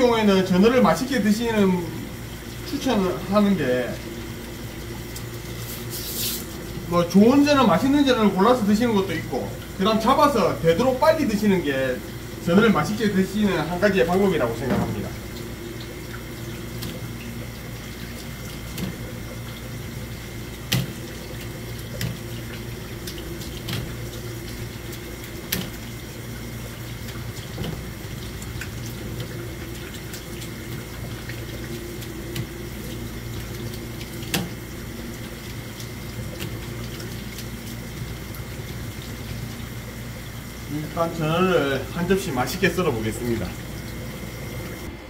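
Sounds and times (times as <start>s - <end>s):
water running from hose: 0.0s - 44.9s.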